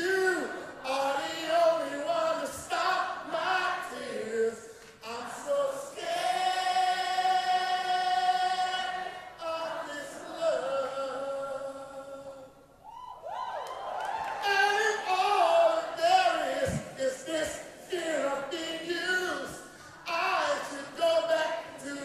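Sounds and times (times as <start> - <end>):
man singing a slow ballad: 0.0 - 12.5, 14.4 - 22.0.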